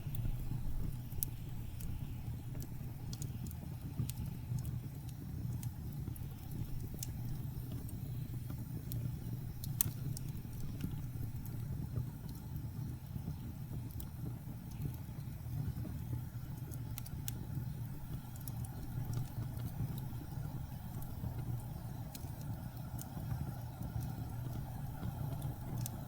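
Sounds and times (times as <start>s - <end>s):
low rumble of wind: 0.0s - 26.0s
wood fire crackling: 0.0s - 26.0s.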